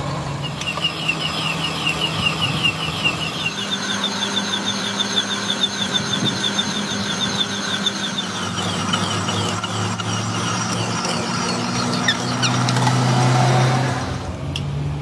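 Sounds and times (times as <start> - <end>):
lathe motor hum: 0.0 - 14.3
rapid high chirping: 0.5 - 12.6.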